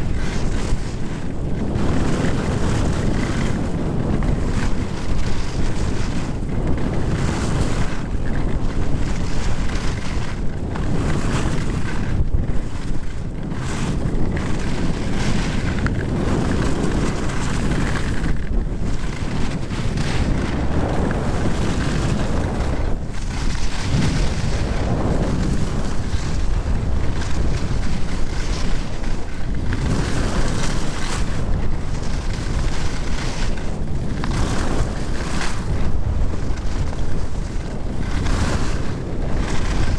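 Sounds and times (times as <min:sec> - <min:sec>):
skis sliding over snow: 0:00.0 - 0:39.9
wind buffeting microphone: 0:00.0 - 0:39.9.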